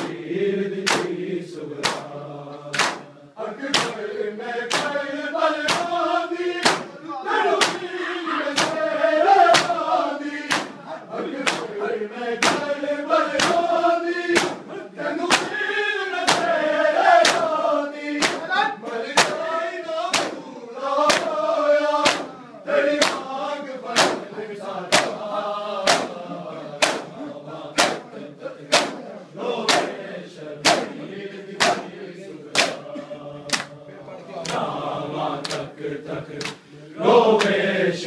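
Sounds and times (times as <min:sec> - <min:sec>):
men chanting a lament: 0:00.0 - 0:38.0
hands striking chests in unison: 0:00.8 - 0:04.0, 0:04.7 - 0:11.8, 0:12.4 - 0:30.0, 0:30.6 - 0:31.0, 0:31.6 - 0:32.9, 0:33.5 - 0:33.8, 0:35.4 - 0:35.8, 0:36.4 - 0:36.7, 0:37.4 - 0:37.6.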